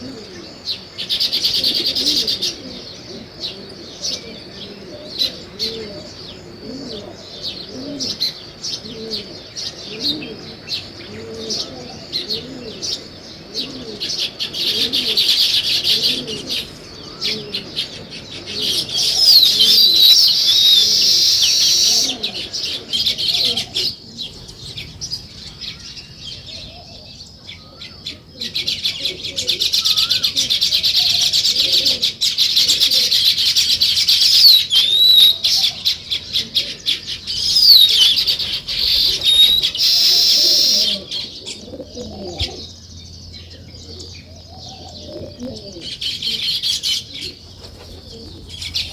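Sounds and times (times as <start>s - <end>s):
dove cooing: 0.0s - 48.9s
sparrows chirping: 0.0s - 48.9s.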